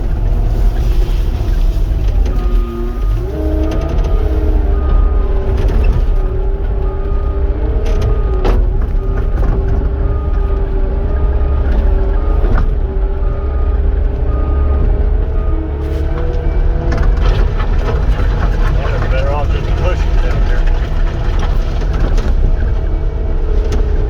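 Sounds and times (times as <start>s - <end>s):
hydraulic drone: 0.0s - 13.7s, 14.3s - 24.0s
diesel engine under load: 0.0s - 24.0s.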